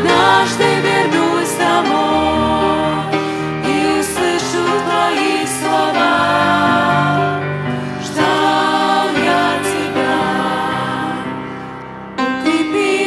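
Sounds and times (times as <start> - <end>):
choir singing a hymn: 0.0 - 13.0
piano accompaniment: 0.0 - 13.0.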